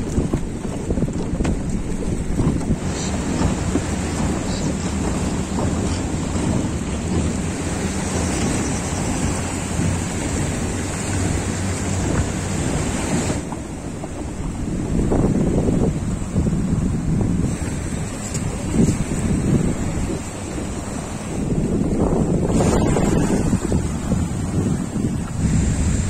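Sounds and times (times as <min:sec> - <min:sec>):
low boat engine hum: 0:00.0 - 0:26.0
wind buffeting microphone: 0:00.0 - 0:26.0.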